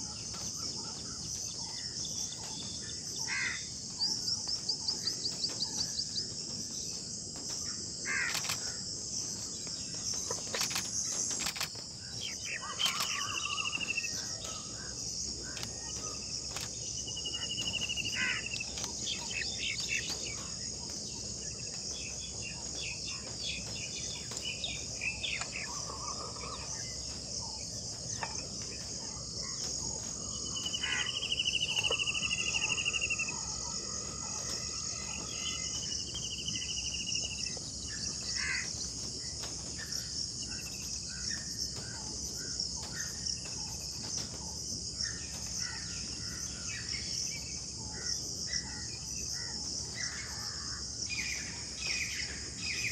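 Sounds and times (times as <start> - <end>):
trilled bird calls: 0.0 - 7.0, 8.0 - 52.9
insect chorus: 0.0 - 52.9.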